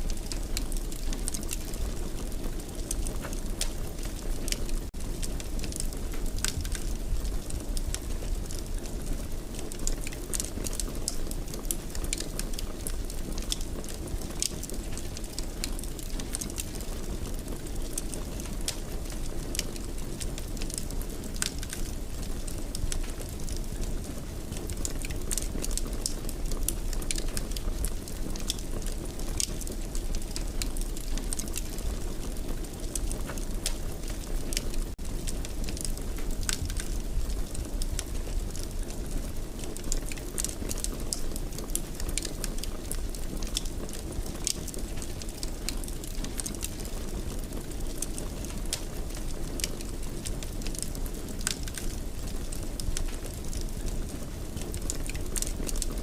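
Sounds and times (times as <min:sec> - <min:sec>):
low rumble of burning: 0:00.0 - 0:56.0
wood fire crackling and popping: 0:00.0 - 0:56.0.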